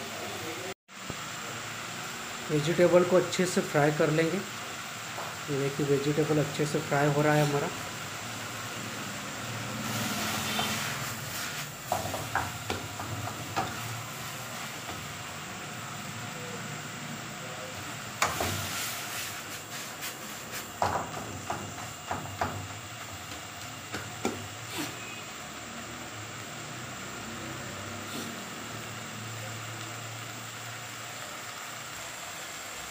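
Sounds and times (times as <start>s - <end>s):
vegetables sizzling in wok: 0.0s - 32.9s.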